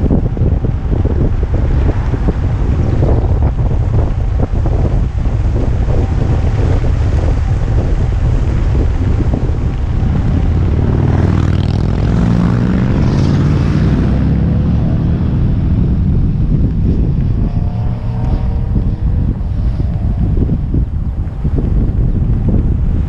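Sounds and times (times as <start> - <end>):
passing motorcycle engines: 0.0 - 23.0
wind buffeting microphone: 0.0 - 23.0.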